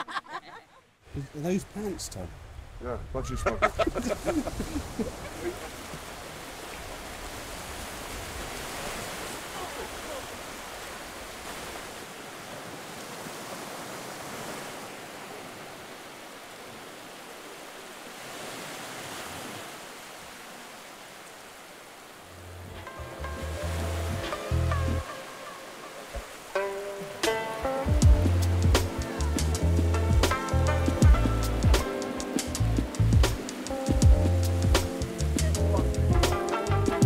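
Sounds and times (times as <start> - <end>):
surf washing on shore: 1.0 - 36.8.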